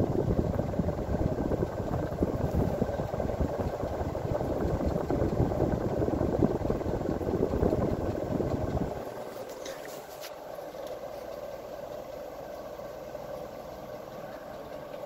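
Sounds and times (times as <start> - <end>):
ceiling fan wind buffeting microphone: 0.0 - 15.0.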